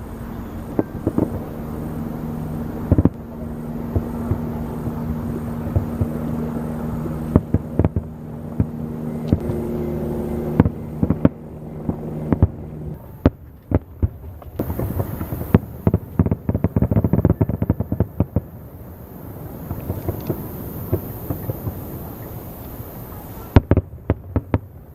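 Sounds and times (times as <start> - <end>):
crackling fireworks reports: 0.0 - 24.9
fireworks bursting: 0.0 - 24.9
steady low hum: 0.0 - 24.9.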